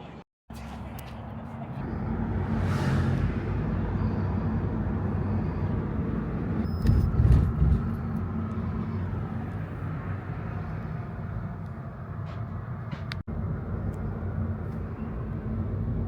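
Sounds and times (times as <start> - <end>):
road vehicle rumble: 0.0 - 16.0.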